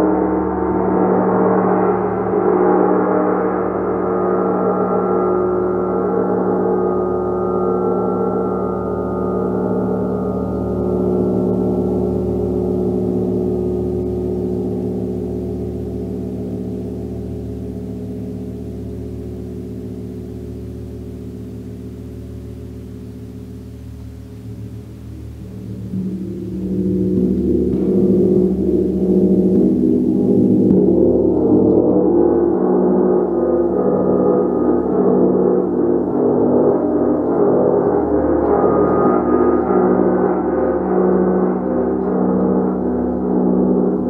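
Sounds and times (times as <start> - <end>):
gong ringing: 0.0 - 35.6.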